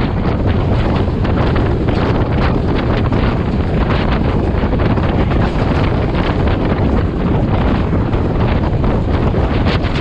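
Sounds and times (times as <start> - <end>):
train carriage rumbling on track: 0.0 - 10.0
wind buffeting microphone: 0.0 - 10.0.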